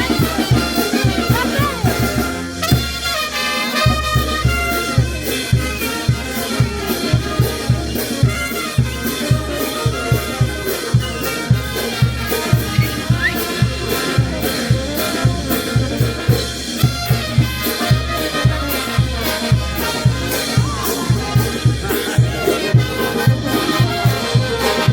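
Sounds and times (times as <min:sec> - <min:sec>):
bass drum beat: 0:00.0 - 0:03.1, 0:03.8 - 0:24.9
brass band horn lines: 0:00.0 - 0:24.9.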